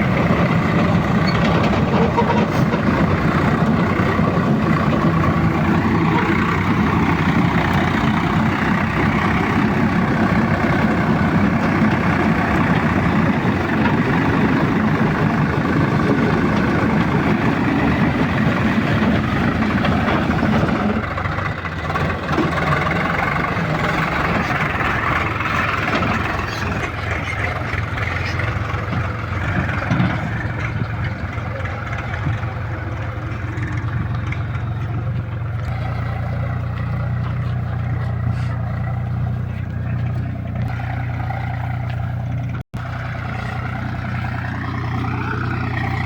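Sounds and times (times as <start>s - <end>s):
heavy diesel engine running: 0.0s - 46.0s.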